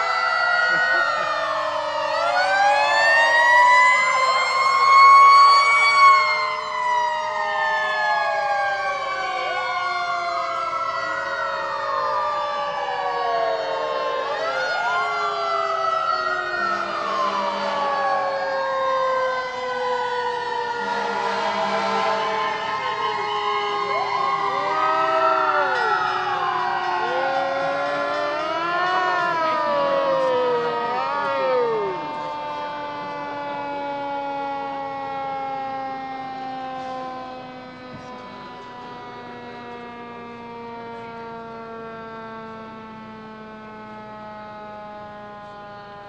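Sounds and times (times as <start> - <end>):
fire engine sirens wailing: 0.0 - 46.0.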